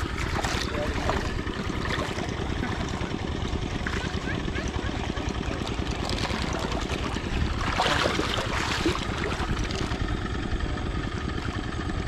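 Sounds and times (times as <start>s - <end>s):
river water splashing: 0.0s - 11.8s.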